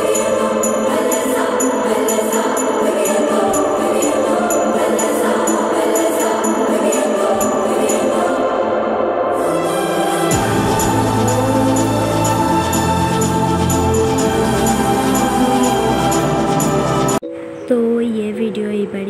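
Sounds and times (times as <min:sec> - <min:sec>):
jingling bell beat: 0:00.0 - 0:08.4, 0:10.1 - 0:17.2
choir-like backing: 0:00.0 - 0:17.2.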